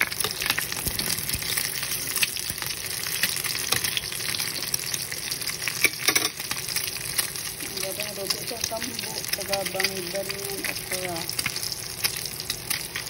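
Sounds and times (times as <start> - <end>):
eggs sizzling in oil: 0.0 - 13.0
oil crackling and popping: 0.0 - 13.0.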